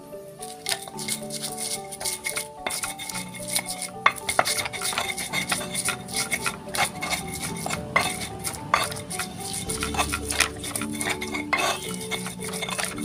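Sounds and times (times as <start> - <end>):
stone pestle grinding in mortar: 0.4 - 13.0.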